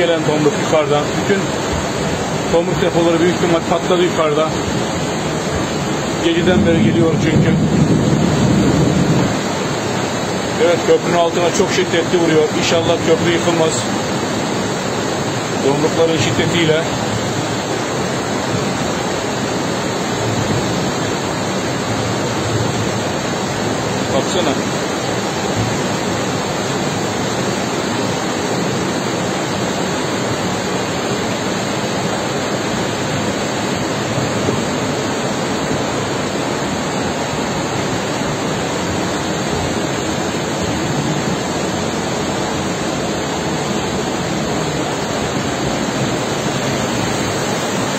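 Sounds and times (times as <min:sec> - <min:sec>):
river rushing in flood: 0:00.0 - 0:47.9.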